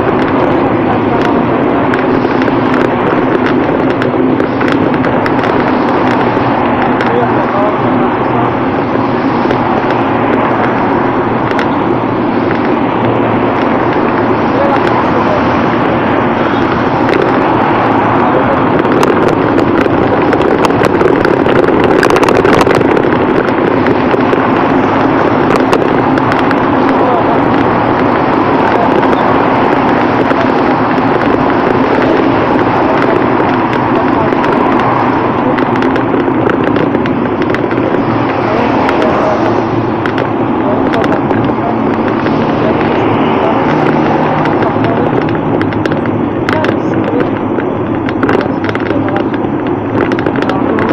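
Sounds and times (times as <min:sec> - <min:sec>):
passing traffic: 0:00.0 - 0:50.9
small clicks and crackles: 0:00.0 - 0:50.9
wind on microphone: 0:00.0 - 0:50.9.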